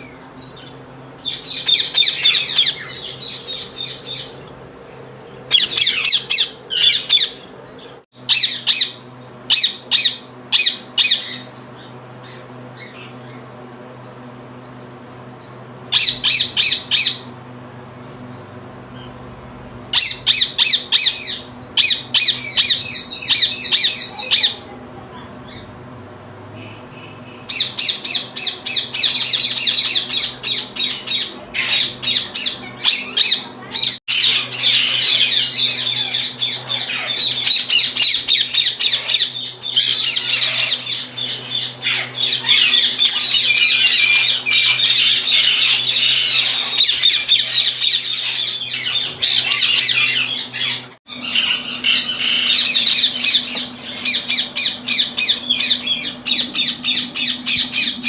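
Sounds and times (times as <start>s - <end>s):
parakeets screeching: 0.0s - 13.5s, 15.9s - 17.3s, 19.9s - 24.7s, 27.0s - 58.0s.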